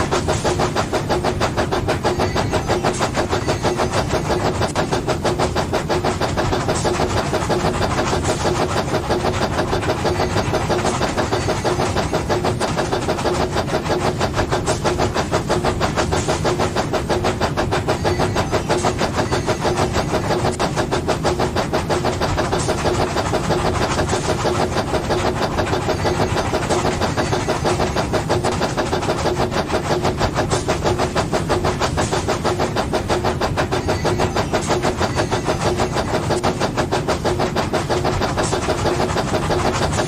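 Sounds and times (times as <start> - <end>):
toy train engine running: 0.0 - 40.0.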